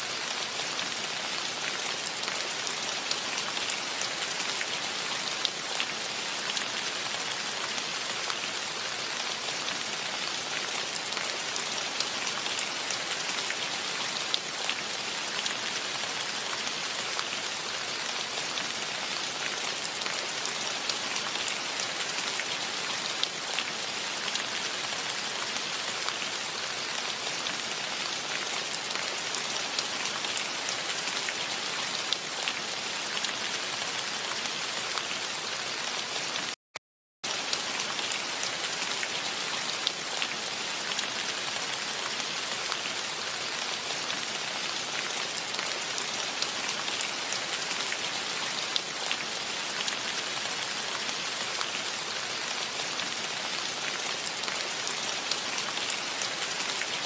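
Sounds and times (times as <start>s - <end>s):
steady rain falling: 0.0s - 36.6s, 37.2s - 57.0s.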